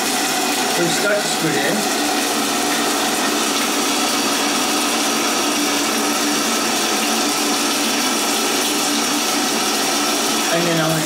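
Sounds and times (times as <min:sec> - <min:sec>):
water running from faucet: 0:00.0 - 0:11.0.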